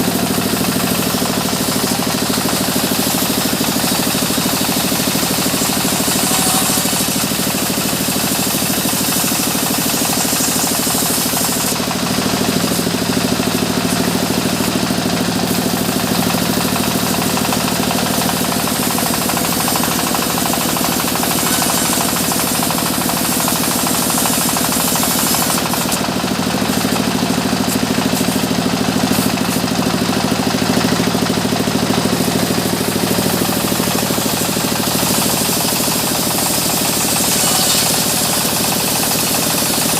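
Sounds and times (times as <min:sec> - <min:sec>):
sawmill machinery pulsing: 0:00.0 - 0:39.9.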